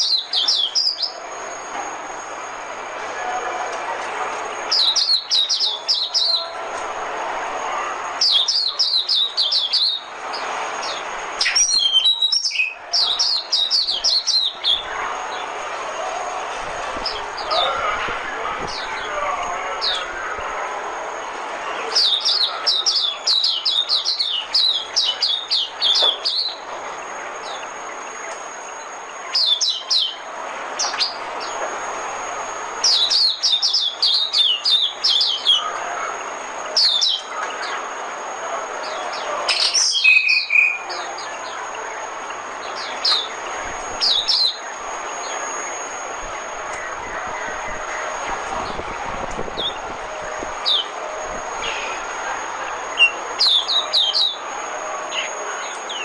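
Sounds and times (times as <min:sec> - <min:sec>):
bird twittering: 0:00.0 - 0:01.7, 0:04.4 - 0:06.7, 0:07.6 - 0:16.4, 0:21.7 - 0:31.6, 0:32.5 - 0:38.0, 0:38.8 - 0:56.0
faint high tone and hiss: 0:00.0 - 0:56.0.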